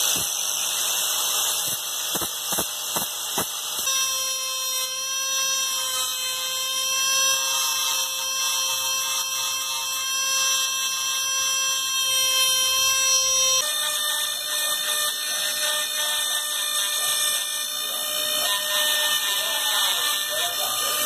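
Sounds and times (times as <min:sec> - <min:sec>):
rotary tool grinding steel: 0:00.0 - 0:21.0.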